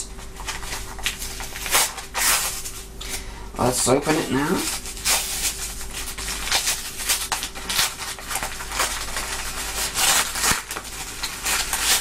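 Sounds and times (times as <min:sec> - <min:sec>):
faint steady hum: 0:00.0 - 0:12.0
paper envelope tearing and rustling: 0:00.2 - 0:02.8, 0:03.8 - 0:12.0.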